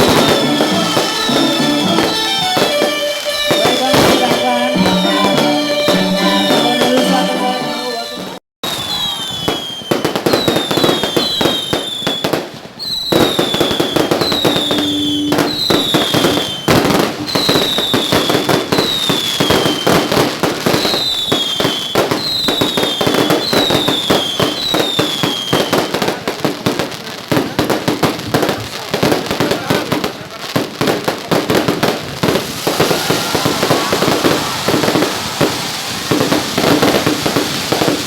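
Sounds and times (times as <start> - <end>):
fireworks crackling and popping: 0.0 - 7.4, 8.6 - 38.0
falling firework whistle: 0.0 - 26.1, 31.8 - 38.0.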